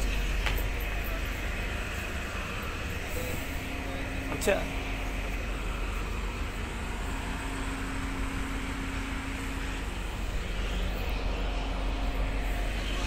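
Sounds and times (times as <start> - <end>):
deck machinery rumble and hum: 0.0 - 13.0.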